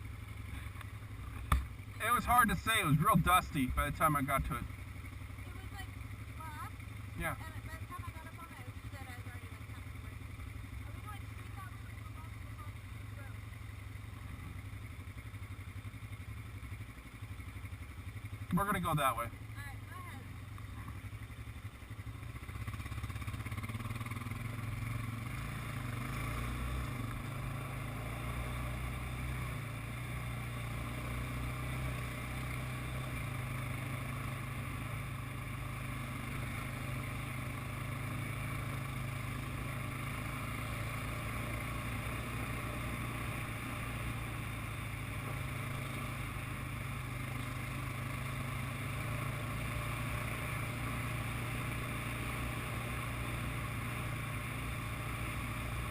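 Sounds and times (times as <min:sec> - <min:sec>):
atv engine droning: 0:00.0 - 0:55.9.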